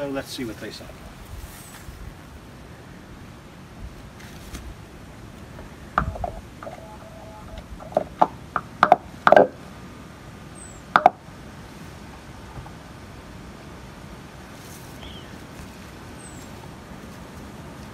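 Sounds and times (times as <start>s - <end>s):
faint hiss: 0.0s - 8.5s, 9.1s - 17.9s.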